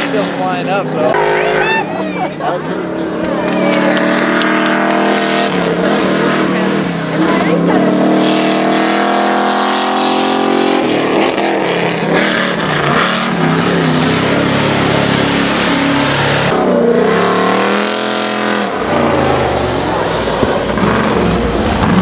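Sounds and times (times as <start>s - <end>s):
pickup engine revving: 0.0s - 22.0s.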